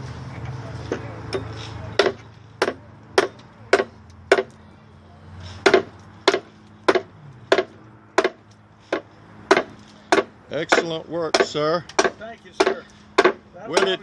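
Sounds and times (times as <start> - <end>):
hand tool chopping wood: 0.9 - 4.6, 5.6 - 14.0.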